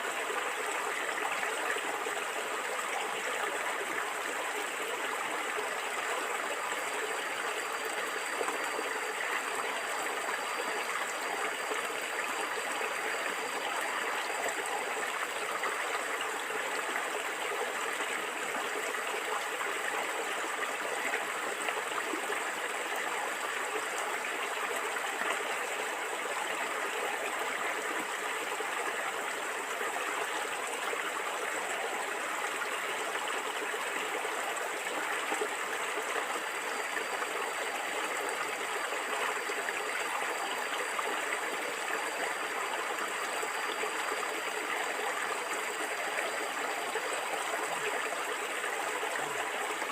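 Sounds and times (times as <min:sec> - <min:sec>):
stream water flowing and gurgling: 0:00.0 - 0:49.9.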